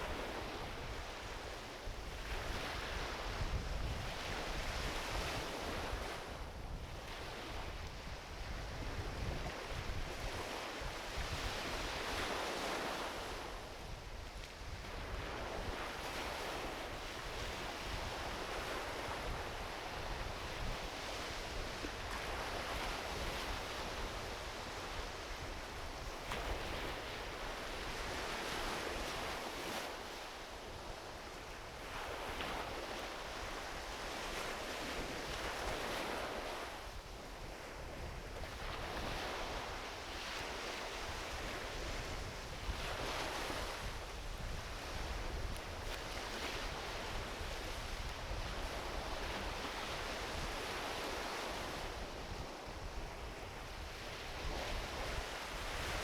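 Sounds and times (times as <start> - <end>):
wind rumble on microphone: 0.0 - 30.0, 30.6 - 56.0
small waves washing onto beach: 0.0 - 56.0.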